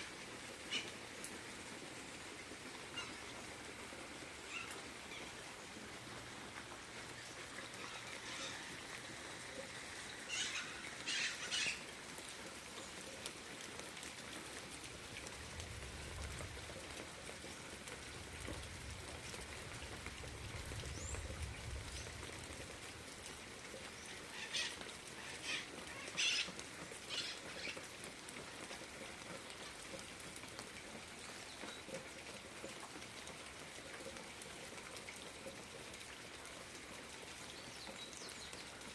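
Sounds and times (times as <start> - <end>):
steady outdoor hiss: 0.0 - 38.9.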